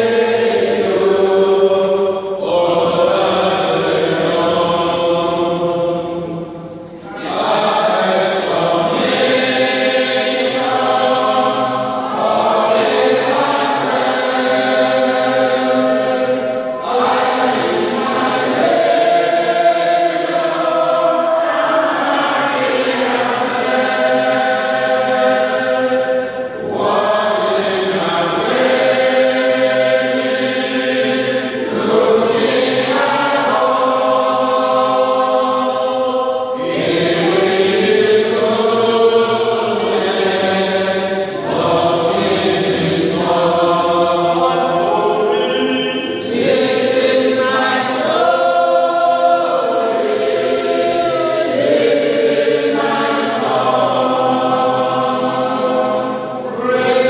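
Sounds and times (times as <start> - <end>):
group singing a hymn: 0.0 - 57.0.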